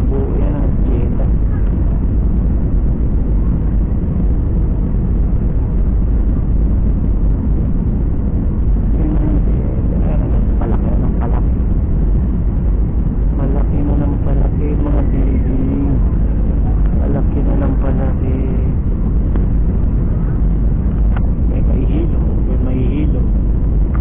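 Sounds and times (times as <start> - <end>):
jet airliner cabin rumble: 0.0 - 24.0.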